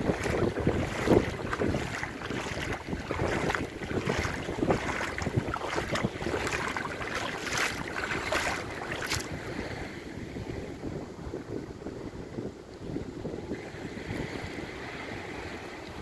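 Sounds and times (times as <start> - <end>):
small waves lapping and splashing: 0.0 - 16.0
wind buffeting microphone: 0.0 - 16.0.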